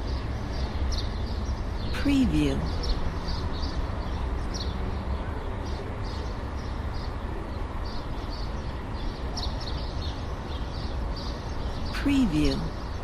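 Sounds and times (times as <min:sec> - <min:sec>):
distant traffic rumble: 0:00.0 - 0:13.0
small birds chirping: 0:00.0 - 0:13.0.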